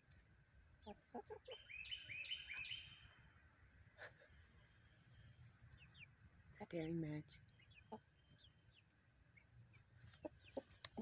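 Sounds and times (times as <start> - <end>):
bird chirping: 0.7 - 3.6, 4.3 - 11.0.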